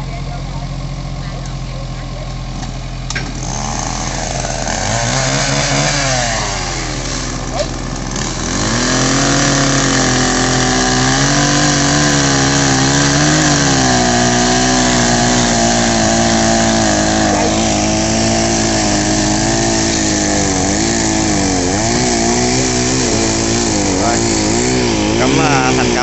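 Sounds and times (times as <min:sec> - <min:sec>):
chainsaw cutting log: 0:03.1 - 0:26.0.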